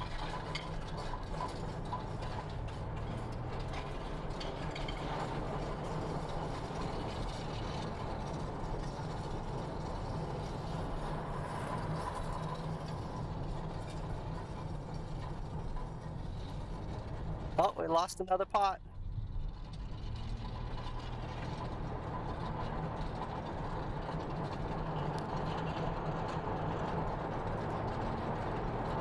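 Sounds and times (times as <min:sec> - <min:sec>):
car interior road rumble: 0:00.0 - 0:29.0.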